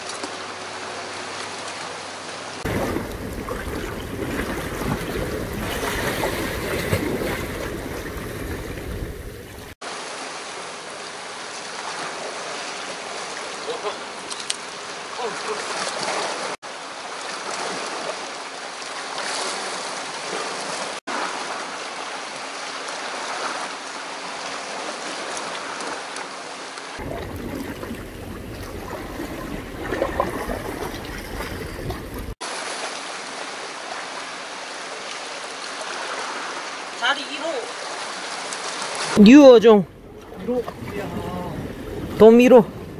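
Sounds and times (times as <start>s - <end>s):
seawater lapping against rocks: 0.0s - 42.9s.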